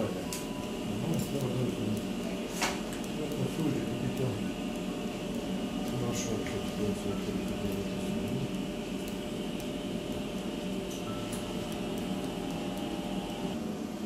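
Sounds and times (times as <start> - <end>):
equipment humming: 0.0 - 14.0.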